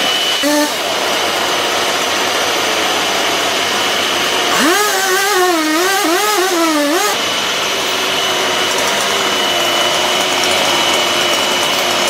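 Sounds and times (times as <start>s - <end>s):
motor running: 0.0s - 12.0s.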